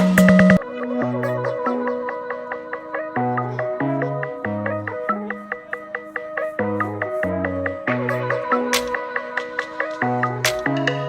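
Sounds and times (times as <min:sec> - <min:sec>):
electronic music with mallet notes: 0:00.0 - 0:11.0.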